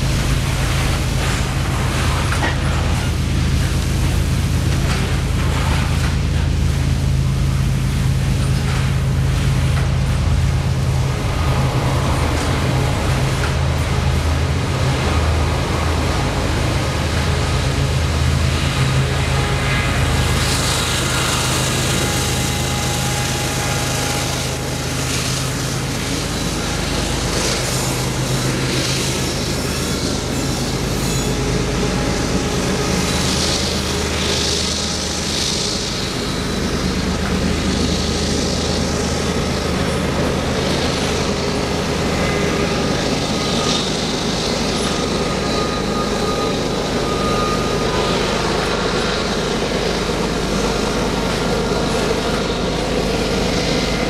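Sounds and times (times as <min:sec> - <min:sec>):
diesel locomotive drone: 0:00.0 - 0:54.0
train wheels rumbling and clicking: 0:00.0 - 0:54.0
wheel flange squeal: 0:10.7 - 0:54.0.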